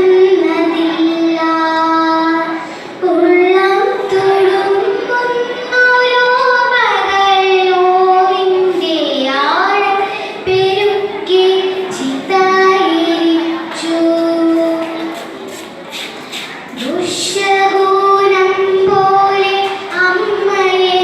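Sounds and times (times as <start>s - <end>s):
child chanting a poem: 0.0s - 15.4s, 16.4s - 21.0s.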